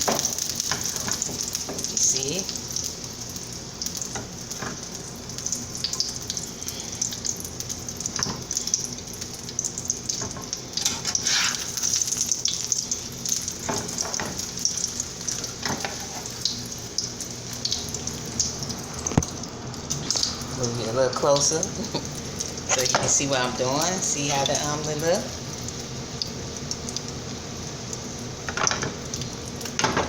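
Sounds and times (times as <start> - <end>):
omelet sizzling in oil: 0.0 - 30.0.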